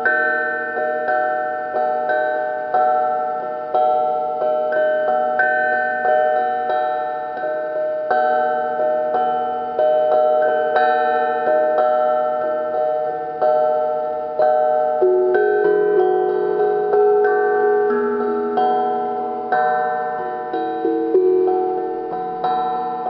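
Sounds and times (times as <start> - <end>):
struck iron bell-like notes: 0.0 - 23.0.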